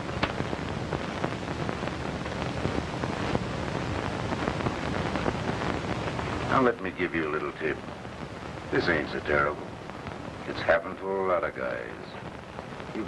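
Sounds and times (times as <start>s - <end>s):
film soundtrack hiss with crackles: 0.0s - 13.0s.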